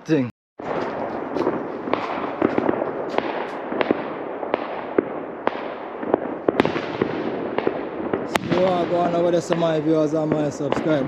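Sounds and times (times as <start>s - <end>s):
fireworks crackling and rumbling: 0.6s - 11.0s
fireworks sharp bangs: 0.6s - 11.0s.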